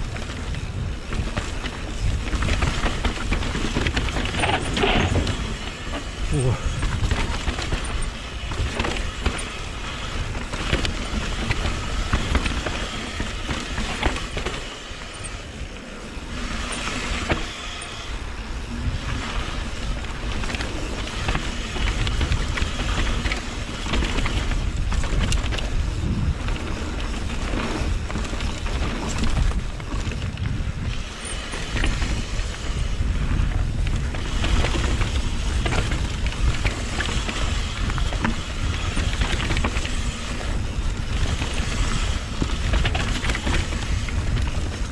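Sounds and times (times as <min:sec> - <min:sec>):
bike rattling over rough ground: 0:00.0 - 0:44.9
wind buffeting microphone: 0:00.0 - 0:44.9.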